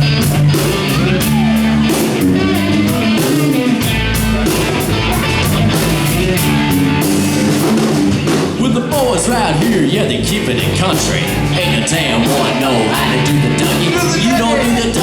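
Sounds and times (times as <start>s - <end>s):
electric guitar bending notes: 0.0s - 8.4s, 9.3s - 15.0s
bass guitar: 0.0s - 15.0s
drum kit beat: 0.0s - 15.0s.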